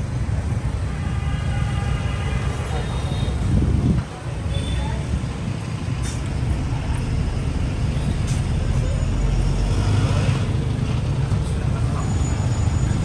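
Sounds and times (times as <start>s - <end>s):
bus driving through: 2.4s - 13.0s.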